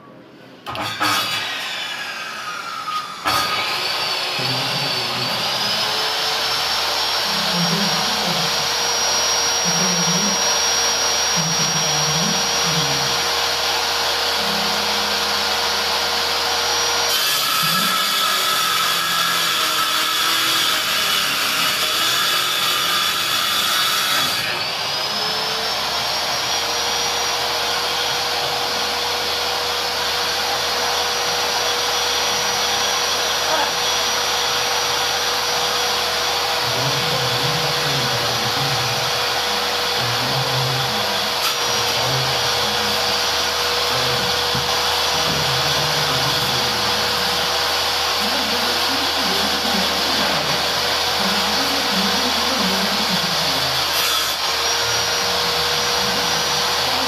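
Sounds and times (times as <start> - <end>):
table saw cutting board: 0.0 - 57.0.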